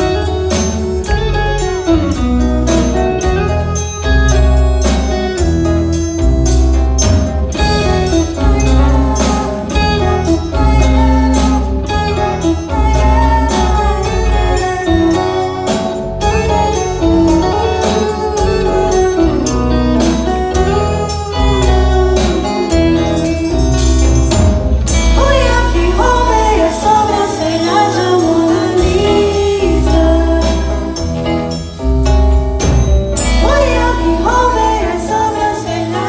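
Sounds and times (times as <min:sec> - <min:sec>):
bass line: 0:00.0 - 0:36.0
drums keeping a steady beat: 0:00.0 - 0:36.0
guitar: 0:00.0 - 0:36.0
melodic lead: 0:00.0 - 0:36.0.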